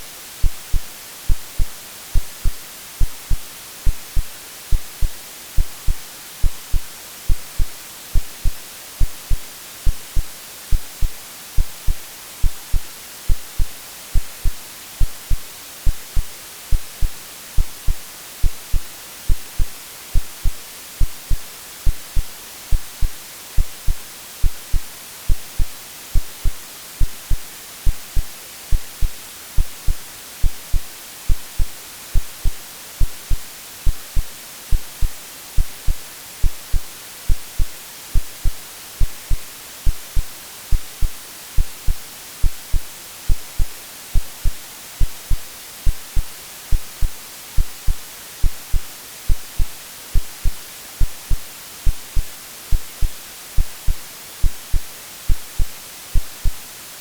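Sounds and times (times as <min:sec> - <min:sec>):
white noise hiss: 0:00.0 - 0:57.0
synthetic heartbeat thumps: 0:00.4 - 0:56.6.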